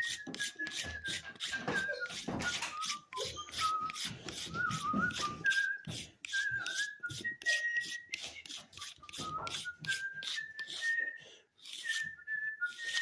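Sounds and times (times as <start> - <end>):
person whistling a tune: 0.0 - 13.0
short scraping strokes: 0.0 - 13.0.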